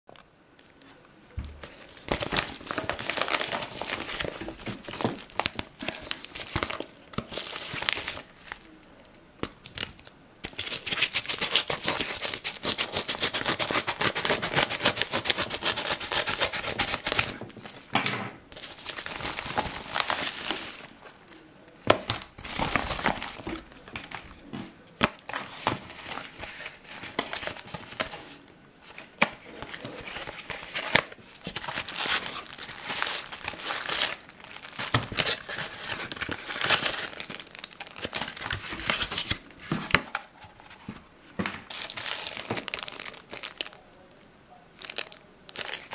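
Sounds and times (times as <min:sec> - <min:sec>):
padded envelope crinkling and tearing: 0:01.6 - 0:08.8, 0:09.6 - 0:17.8, 0:18.6 - 0:21.0, 0:22.2 - 0:40.9, 0:41.6 - 0:44.0, 0:44.8 - 0:45.9.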